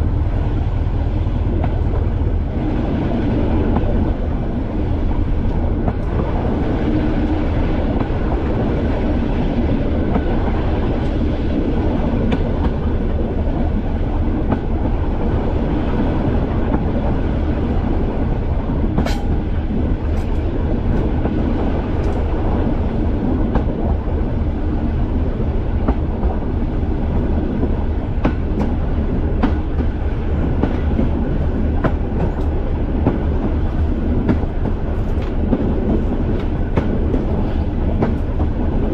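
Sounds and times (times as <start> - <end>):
rail running noise: 0.0 - 38.9.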